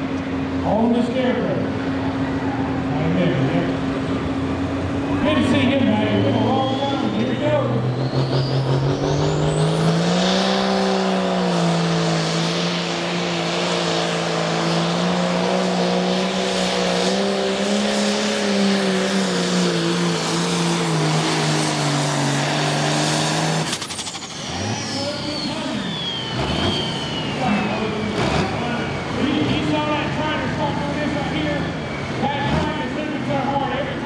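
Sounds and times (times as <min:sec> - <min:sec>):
diesel engine at full throttle: 0:00.0 - 0:34.0
high turbo whine: 0:00.0 - 0:34.0.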